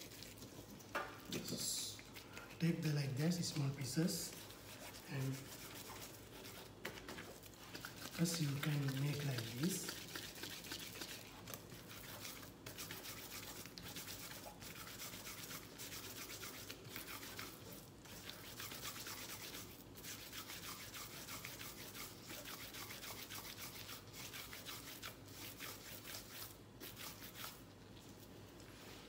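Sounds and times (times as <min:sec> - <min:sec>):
hands rubbing minced meat: 0:00.0 - 0:29.0.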